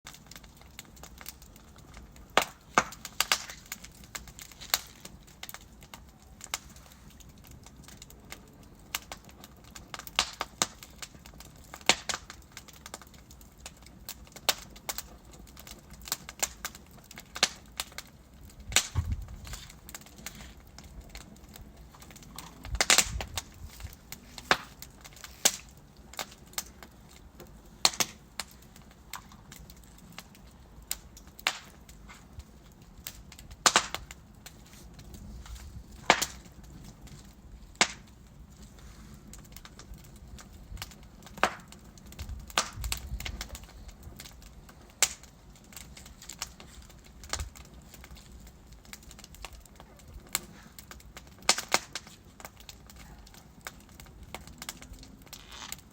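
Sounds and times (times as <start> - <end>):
logs crackling and popping in fireplace: 0.1 - 55.9
fire hissing: 0.2 - 13.0, 14.1 - 55.9.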